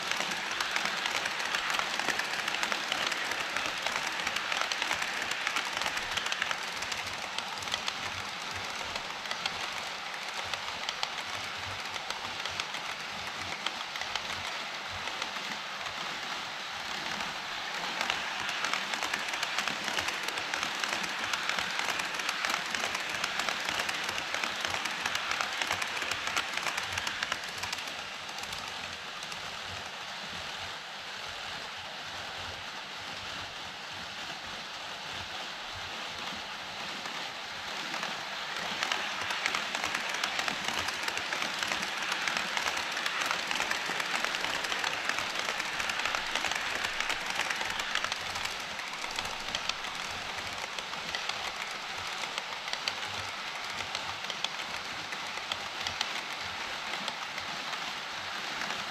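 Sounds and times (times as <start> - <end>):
model train wheels clicking: 0.0 - 32.7, 34.3 - 58.9.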